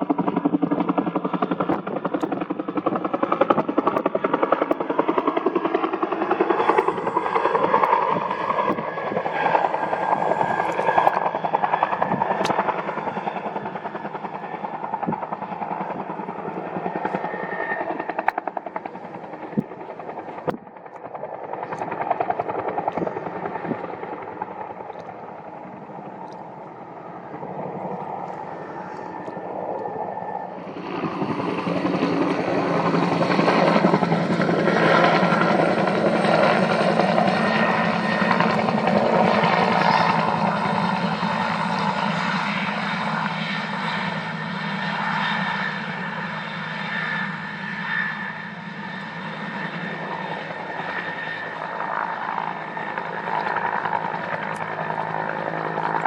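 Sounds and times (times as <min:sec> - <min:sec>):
helicopter rotor beating: 0:00.0 - 0:56.0.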